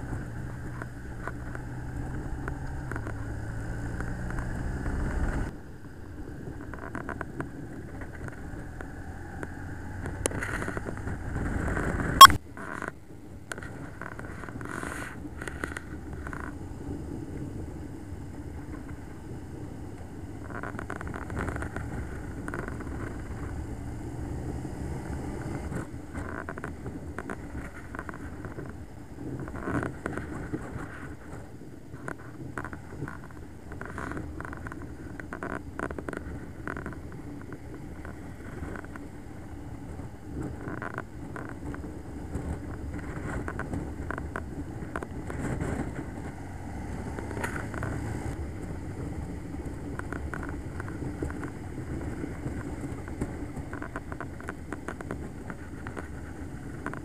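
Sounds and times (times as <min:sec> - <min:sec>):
motorcycle engine and road rumble: 0:00.0 - 0:57.0.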